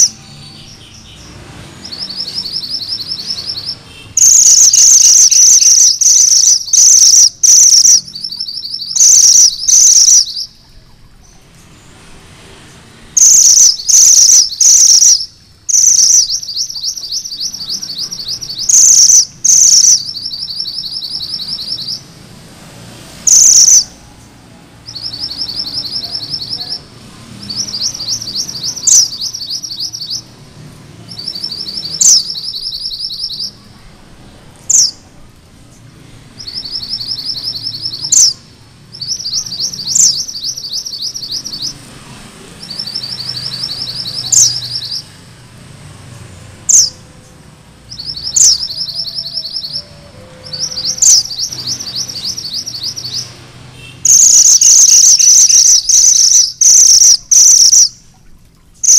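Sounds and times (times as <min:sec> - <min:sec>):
bird singing with trills: 0:00.0 - 0:12.0, 0:13.2 - 0:22.3, 0:23.2 - 0:24.2, 0:24.8 - 0:30.4, 0:31.0 - 0:33.8, 0:34.6 - 0:35.1, 0:35.7 - 0:42.0, 0:42.6 - 0:45.3, 0:46.7 - 0:58.9.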